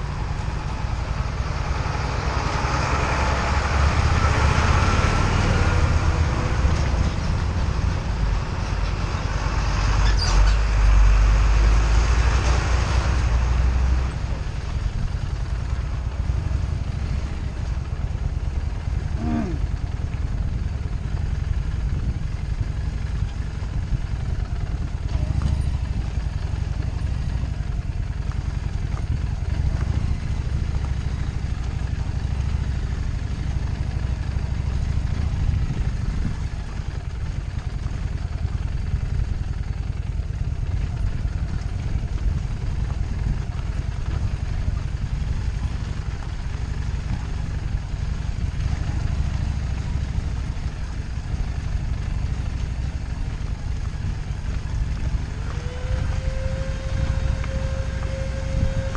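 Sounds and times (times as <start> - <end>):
motorcycle engine rumbling: 0.0 - 58.9.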